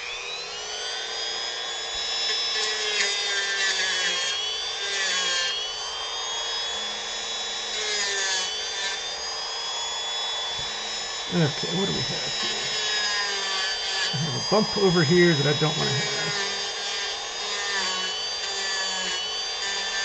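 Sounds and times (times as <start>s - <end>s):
rotary tool grinding wood: 0.0s - 20.0s.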